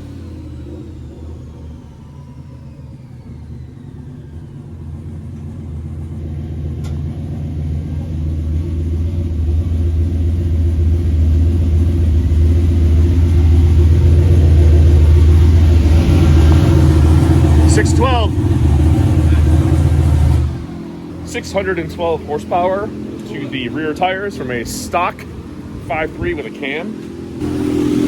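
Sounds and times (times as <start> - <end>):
car engine on dyno: 0.0 - 28.0.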